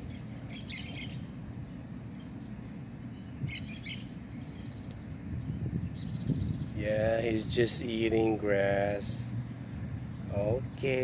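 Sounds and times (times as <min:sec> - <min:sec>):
songbird chirping: 0:00.0 - 0:11.0
steady low rumble: 0:00.0 - 0:11.0.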